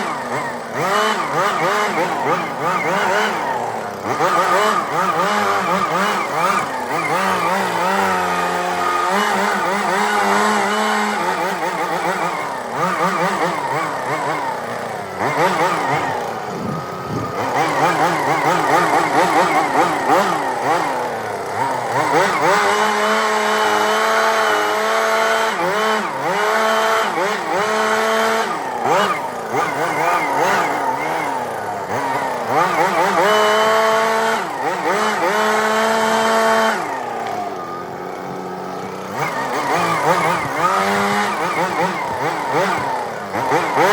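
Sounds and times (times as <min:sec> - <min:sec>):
machine engine running: 0:00.0 - 0:43.9.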